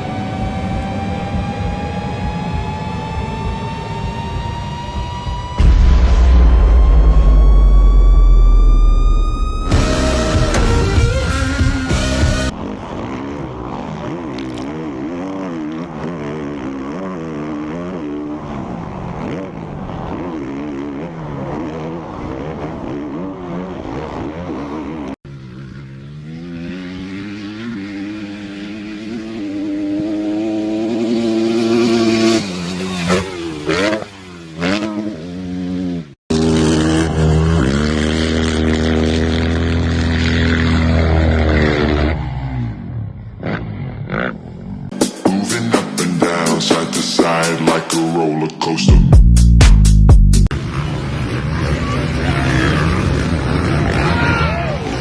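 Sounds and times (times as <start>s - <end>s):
motorbike engines revving hard: 0.0s - 5.7s, 9.6s - 48.8s, 50.4s - 55.0s.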